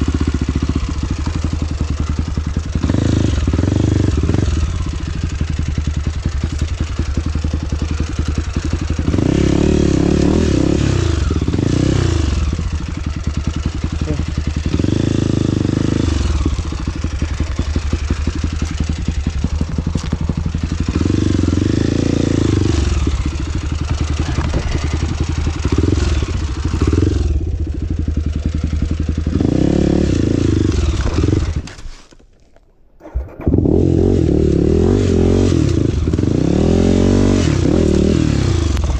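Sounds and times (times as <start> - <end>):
motorcycle engine revving: 0.0 - 32.2, 32.9 - 38.9.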